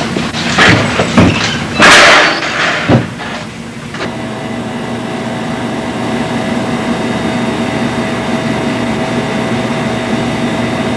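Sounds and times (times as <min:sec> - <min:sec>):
steady droning hum: 0:00.0 - 0:10.9.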